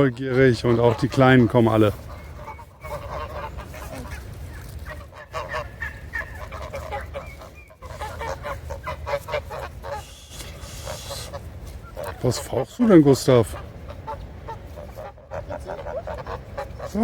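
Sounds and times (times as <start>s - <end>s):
geese honking and gabbling: 0.0s - 17.0s.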